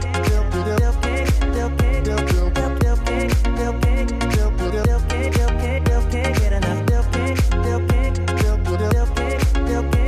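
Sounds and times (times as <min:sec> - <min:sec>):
background music with held chords: 0:00.0 - 0:10.0
steady kick drum: 0:00.0 - 0:10.0.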